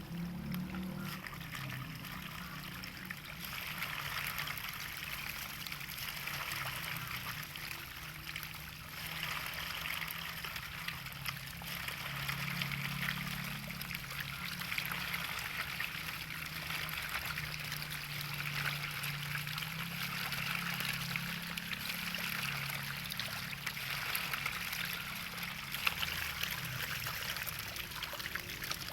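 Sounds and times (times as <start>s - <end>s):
low wavering hum: 0.0s - 28.9s
water running and trickling: 0.0s - 28.9s.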